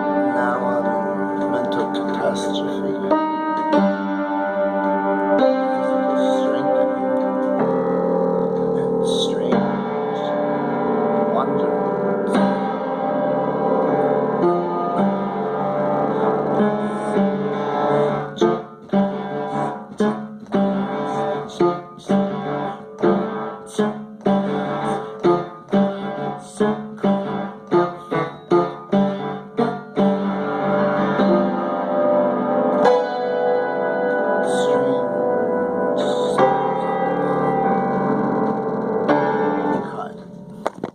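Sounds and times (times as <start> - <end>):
piano played freely: 0.0 - 40.9.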